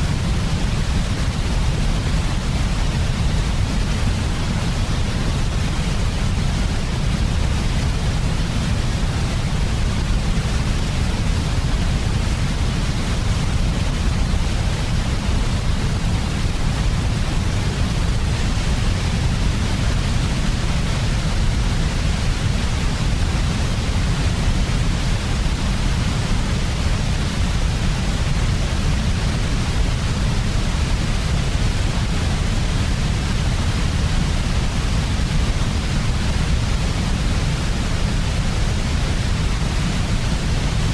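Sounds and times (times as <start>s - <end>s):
white noise hiss with low rumble: 0.0s - 40.9s.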